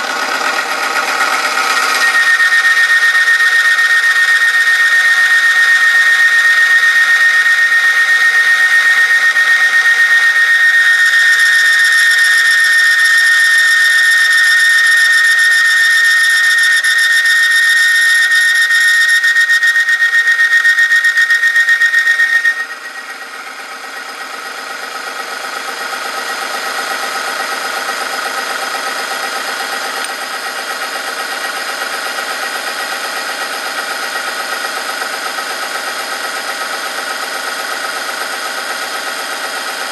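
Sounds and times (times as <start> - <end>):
high-pitched metal squeal: 0.0 - 39.9.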